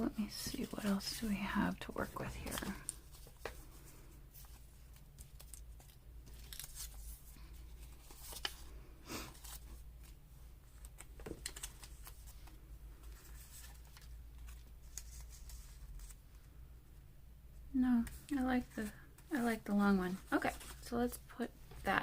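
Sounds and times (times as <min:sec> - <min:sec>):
paper rustling: 0:00.3 - 0:01.4, 0:02.0 - 0:16.2, 0:18.1 - 0:21.2.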